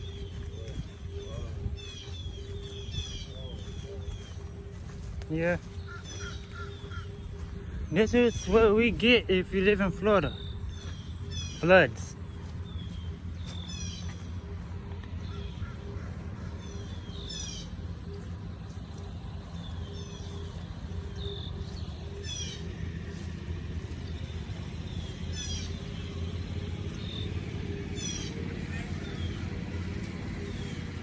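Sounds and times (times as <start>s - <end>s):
birds calling: 0.0s - 31.0s
steady low rumble: 0.0s - 31.0s.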